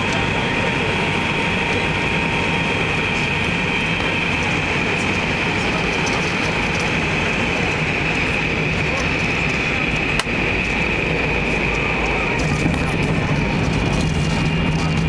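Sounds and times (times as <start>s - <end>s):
jet engine rush in cabin: 0.0s - 15.0s.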